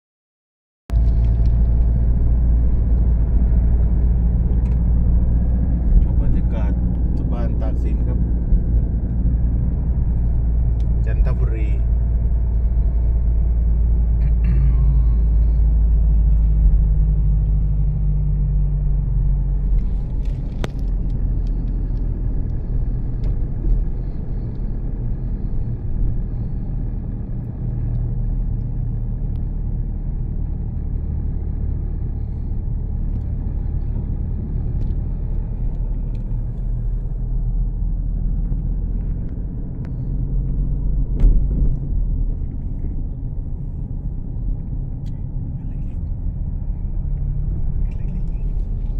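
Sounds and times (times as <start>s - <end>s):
diesel engine rumbling: 0.9s - 48.9s.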